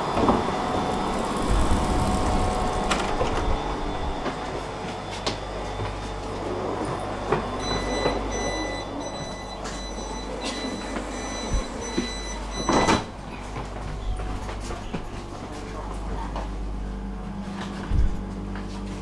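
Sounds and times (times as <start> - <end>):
high steady whine: 0.0 - 19.0
train low rumble: 0.0 - 19.0.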